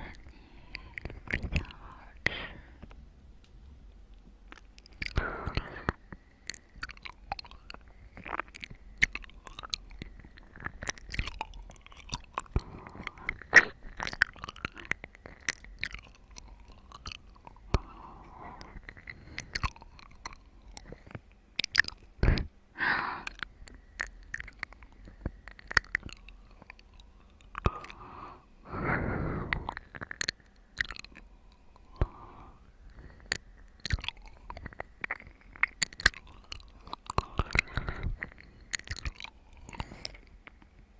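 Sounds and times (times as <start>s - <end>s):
chewing and biting watermelon: 4.5s - 22.5s, 23.3s - 28.0s, 29.6s - 32.2s, 33.0s - 40.7s.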